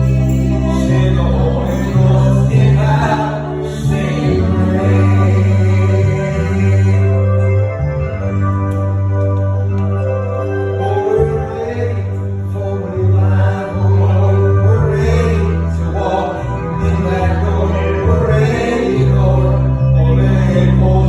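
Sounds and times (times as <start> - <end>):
gospel group singing: 0.0 - 8.4, 10.3 - 21.0
held bass notes: 0.0 - 21.0
organ accompaniment: 0.0 - 21.0.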